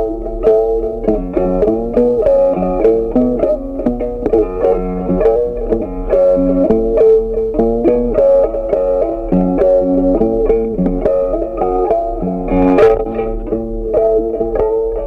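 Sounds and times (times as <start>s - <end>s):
plucked string tune: 0.0s - 15.0s.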